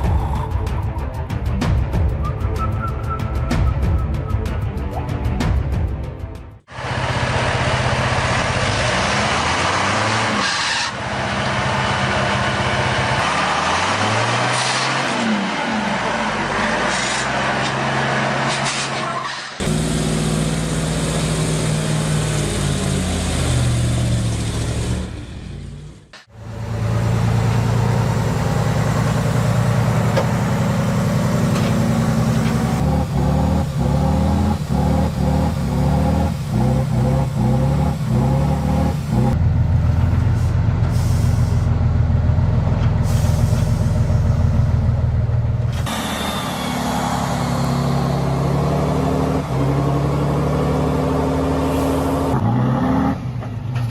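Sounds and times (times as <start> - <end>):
truck engines revving: 6.7 - 53.9.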